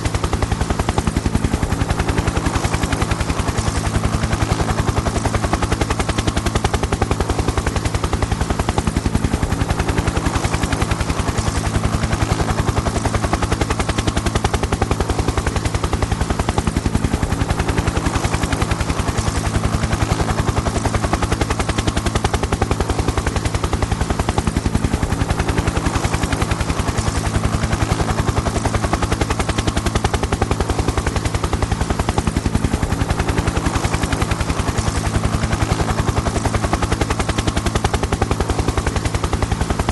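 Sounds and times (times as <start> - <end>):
helicopter rotor chopping: 0.0 - 39.9.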